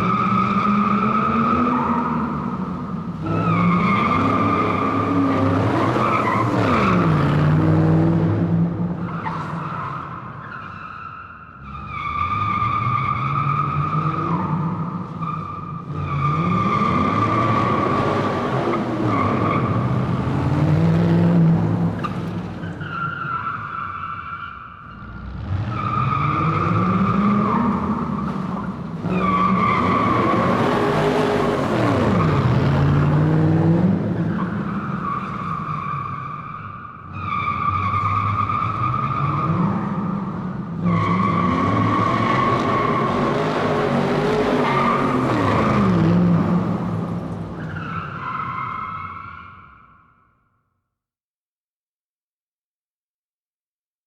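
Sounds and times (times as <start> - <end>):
car tires squealing: 0.0 - 7.6, 9.0 - 33.3, 34.1 - 50.1.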